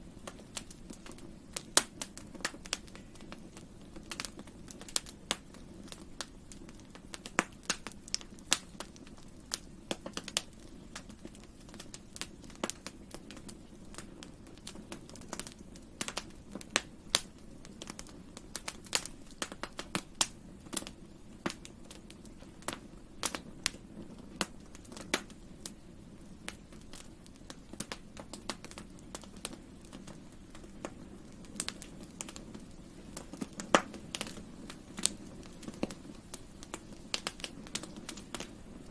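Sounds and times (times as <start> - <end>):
flames rushing: 0.0 - 38.9
wood crackling and popping: 0.0 - 38.9.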